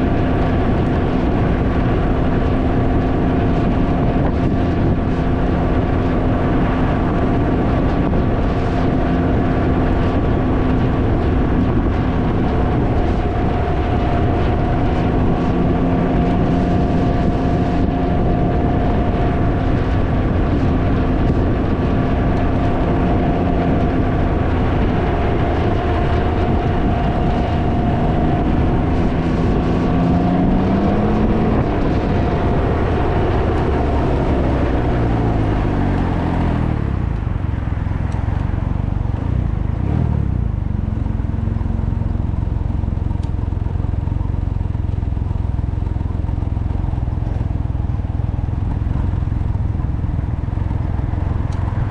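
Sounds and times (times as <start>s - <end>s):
motorcycle engine running: 0.0s - 51.9s
wind noise on microphone: 0.0s - 51.9s.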